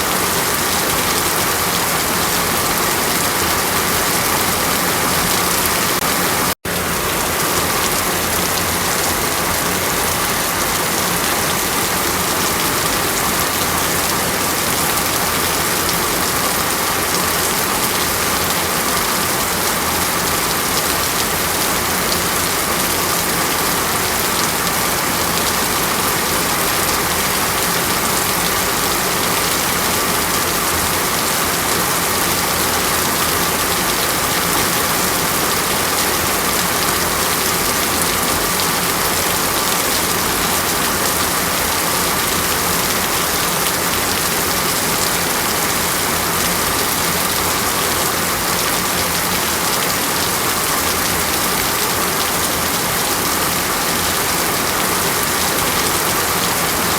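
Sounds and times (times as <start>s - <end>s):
rushing water: 0.0s - 56.9s.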